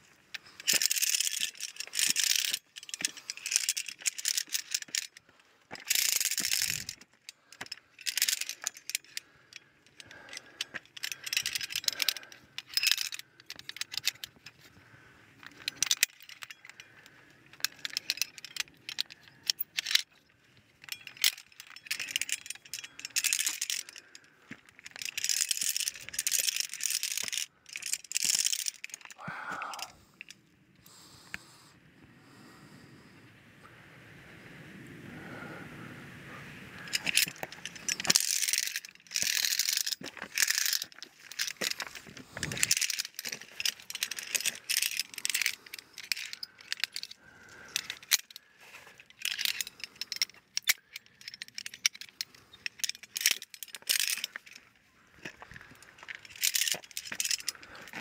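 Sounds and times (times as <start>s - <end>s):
metal carabiners clinking on chain: 0.0s - 31.0s, 36.7s - 58.0s.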